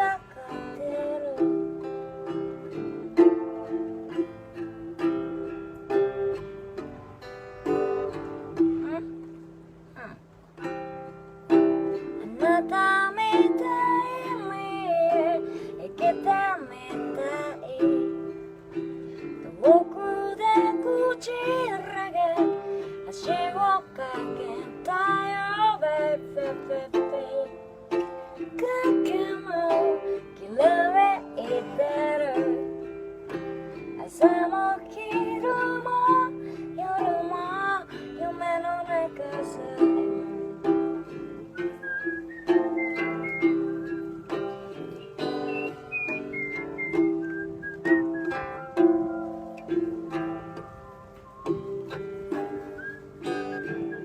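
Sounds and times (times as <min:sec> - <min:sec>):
strummed ukulele: 0:00.0 - 0:54.0.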